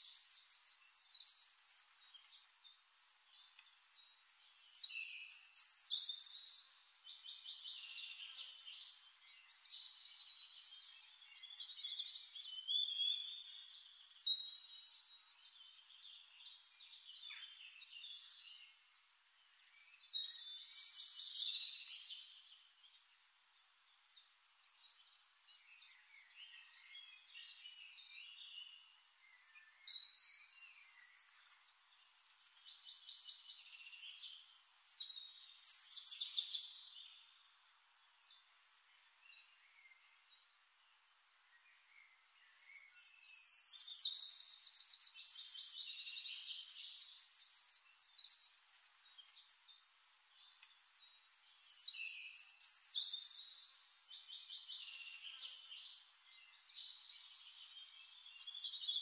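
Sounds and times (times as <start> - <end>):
birds chirping and singing: 0.0 - 40.4, 41.6 - 59.0.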